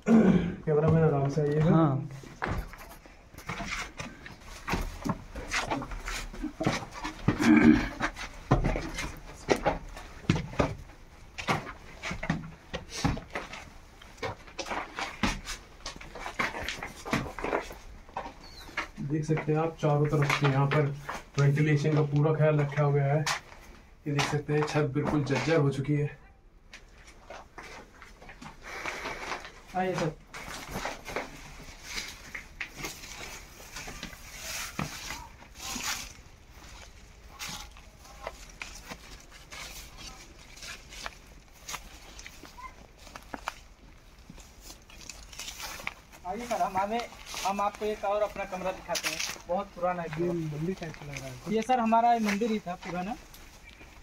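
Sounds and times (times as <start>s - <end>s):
footsteps on brick rubble: 0.7s - 25.8s, 26.7s - 54.0s.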